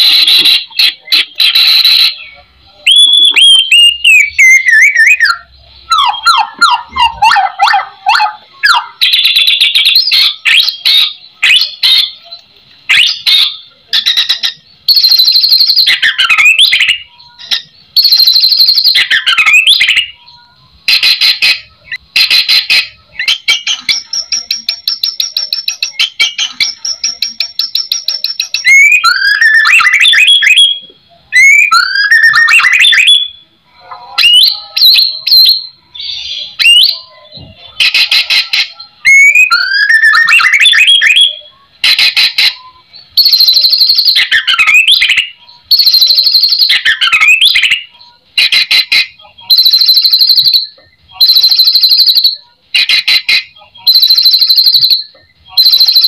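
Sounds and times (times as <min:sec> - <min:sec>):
songbird singing whistles and trills: 0:00.0 - 0:56.0.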